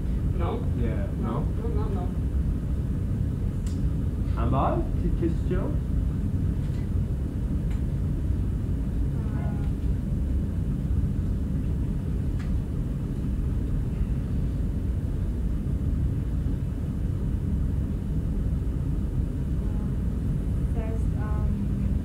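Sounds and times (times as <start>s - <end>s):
low room rumble: 0.0s - 22.0s.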